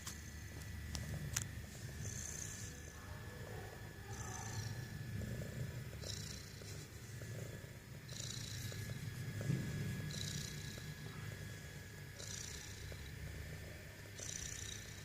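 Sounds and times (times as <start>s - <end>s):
cat snoring rumble: 0.2s - 15.0s.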